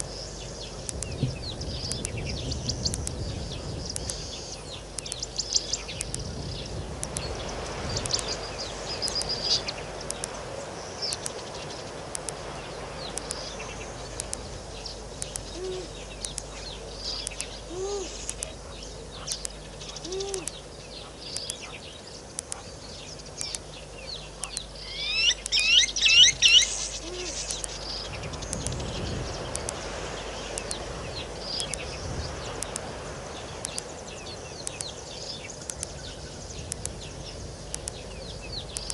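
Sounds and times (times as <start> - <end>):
birds chirping: 0.0 - 38.9
soft low bird notes: 0.0 - 38.9.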